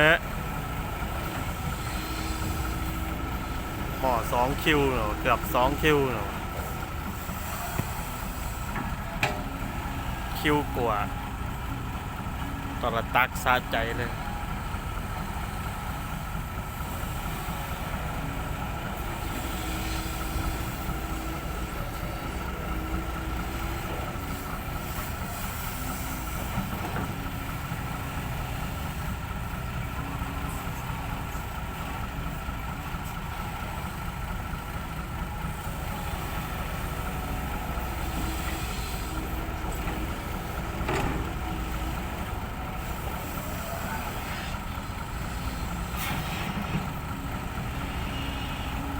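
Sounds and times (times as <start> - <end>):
diesel excavator running: 0.0 - 48.9.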